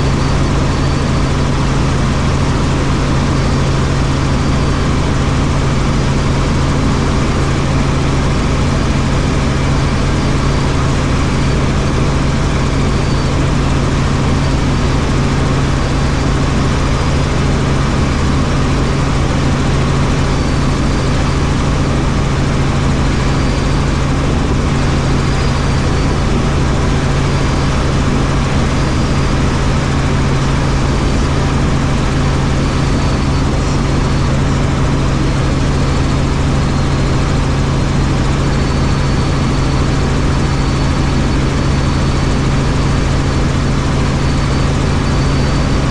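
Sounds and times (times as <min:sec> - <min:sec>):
helicopter engine and rotors: 0:00.0 - 0:45.9.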